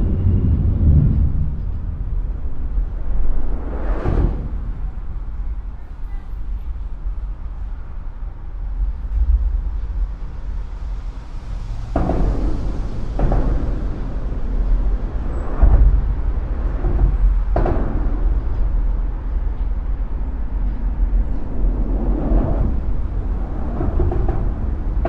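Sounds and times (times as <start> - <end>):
low vehicle rumble: 0.0 - 25.0.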